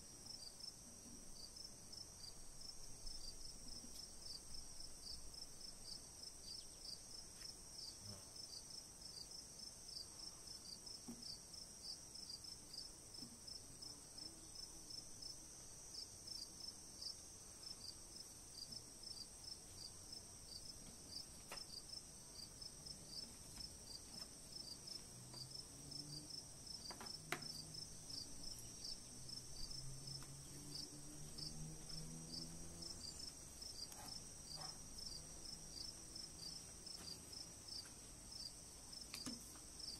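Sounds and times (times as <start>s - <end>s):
insects chirping: 1.4s - 10.8s, 13.5s - 39.9s.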